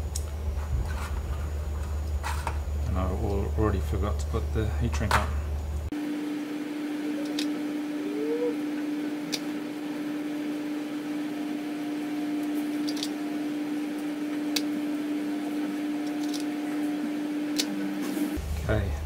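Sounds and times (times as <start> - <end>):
steady appliance hum with hiss: 0.0 - 19.0.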